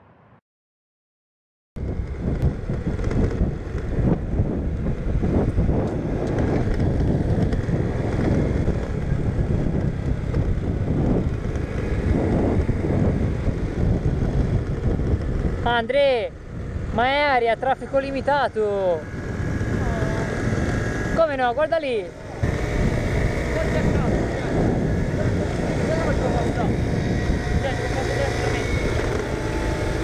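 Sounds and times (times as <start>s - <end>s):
motorcycle engine running: 1.8s - 30.0s
wind buffeting microphone: 1.8s - 30.0s.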